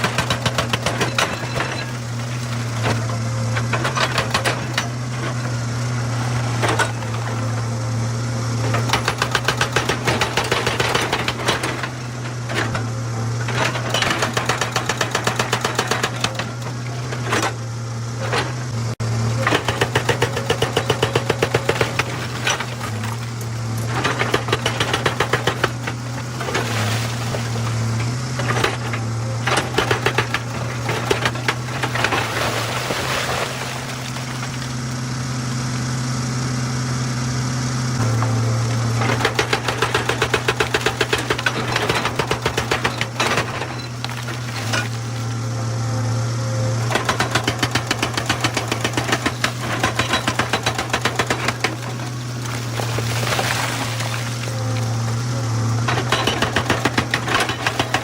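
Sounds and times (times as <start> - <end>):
hydraulic breaker hammering stone: 0.0 - 8.0, 8.6 - 17.6, 18.3 - 35.0, 38.0 - 45.4, 46.8 - 58.0
excavator diesel engine running: 0.0 - 58.0.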